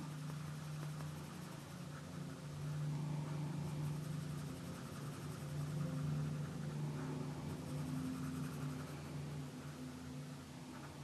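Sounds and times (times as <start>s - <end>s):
pencil scratching on paper: 0.0s - 11.0s
steady low hum: 0.0s - 11.0s.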